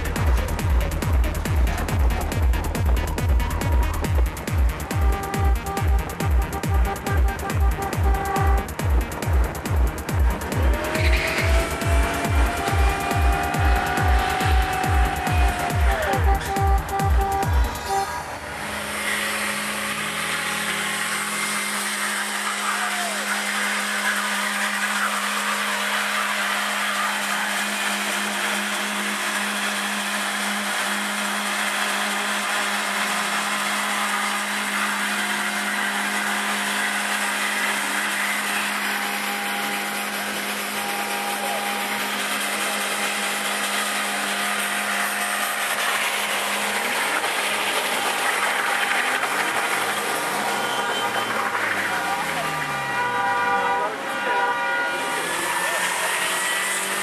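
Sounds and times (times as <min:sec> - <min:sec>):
car engine at high revs: 0:00.0 - 0:57.0
tyres spinning and squealing: 0:06.3 - 0:57.0.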